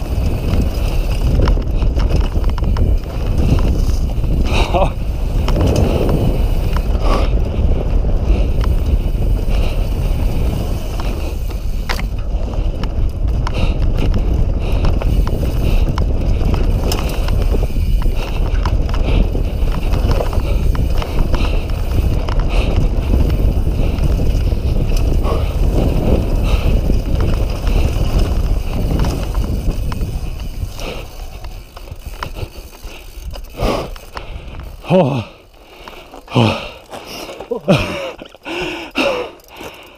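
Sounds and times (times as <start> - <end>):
wind on microphone: 0.0 - 35.4
bike rattling over bumps: 0.0 - 39.9
tyres rolling on dirt: 0.0 - 39.9.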